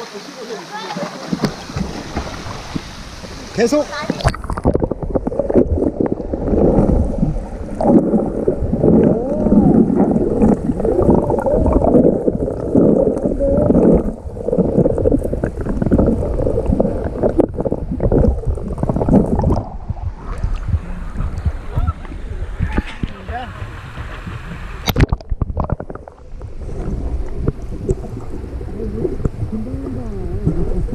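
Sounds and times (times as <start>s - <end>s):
water sloshing and gurgling: 0.3s - 30.9s.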